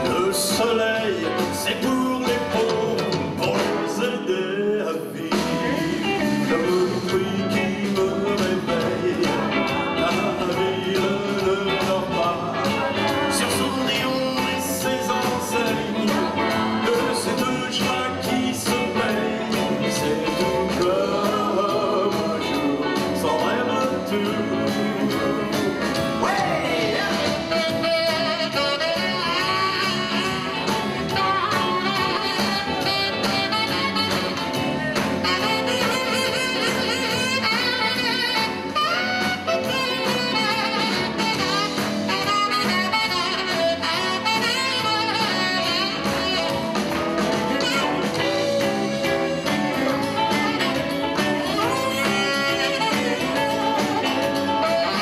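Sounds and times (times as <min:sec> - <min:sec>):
baritone saxophone: 0:00.0 - 0:55.0
live rock and roll band: 0:00.0 - 0:55.0.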